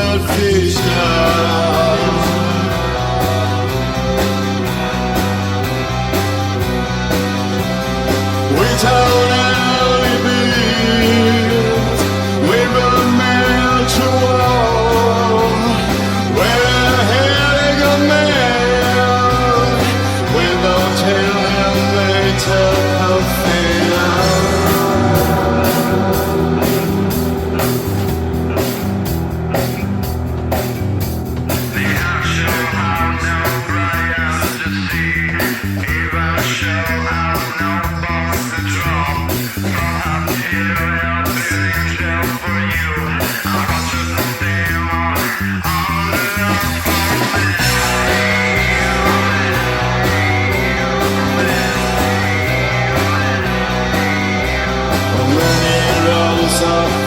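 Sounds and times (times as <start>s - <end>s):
drum kit beat: 0.0s - 57.0s
electric guitars: 0.0s - 57.0s
instrumental rock music: 0.0s - 57.0s
steady bass line: 0.0s - 57.0s.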